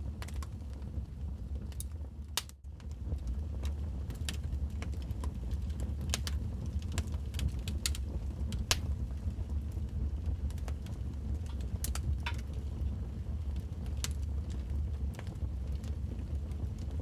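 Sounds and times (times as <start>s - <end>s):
fire crackling and popping: 0.0s - 17.0s
wood fire rumbling: 0.0s - 17.0s.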